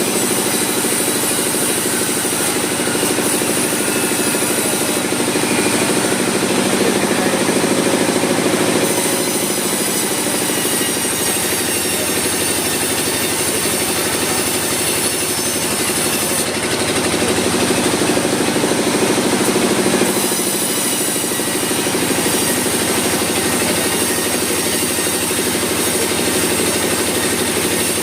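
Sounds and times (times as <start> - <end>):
sawmill machinery rattling: 0.0 - 28.0.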